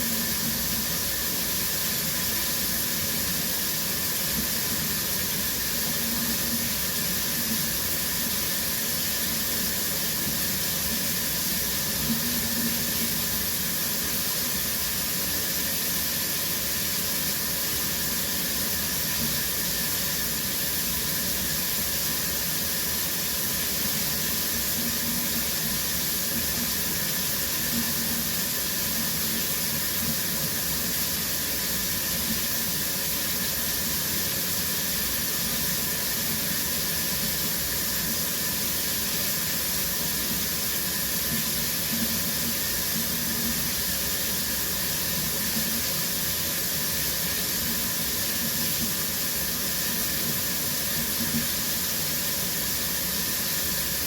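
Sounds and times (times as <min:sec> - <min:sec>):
shower water spraying: 0:00.0 - 0:54.0.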